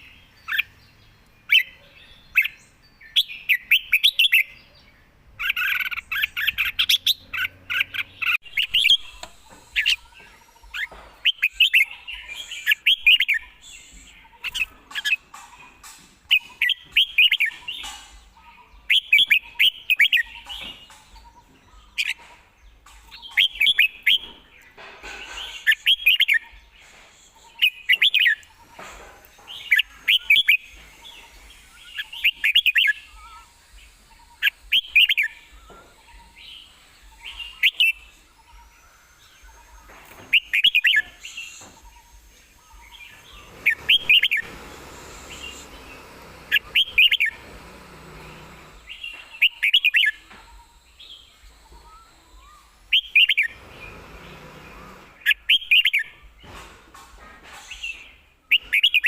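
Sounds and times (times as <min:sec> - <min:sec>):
bird whistled song: 0:01.5 - 0:04.8, 0:05.4 - 0:15.2, 0:16.3 - 0:17.9, 0:18.7 - 0:22.2, 0:23.1 - 0:24.4, 0:25.4 - 0:28.8, 0:29.4 - 0:47.4, 0:48.8 - 0:53.6, 0:55.2 - 0:56.3, 0:57.6 - 0:59.0.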